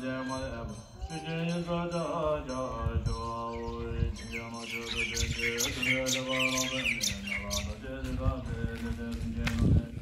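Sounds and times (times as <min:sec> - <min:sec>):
small birds chirping: 0:00.0 - 0:09.1.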